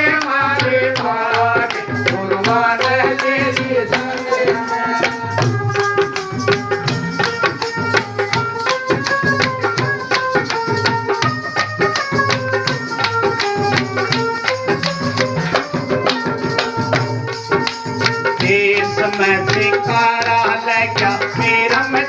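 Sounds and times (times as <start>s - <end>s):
hand drum rhythm: 0.0s - 22.0s
jingling rattle percussion: 0.0s - 22.0s.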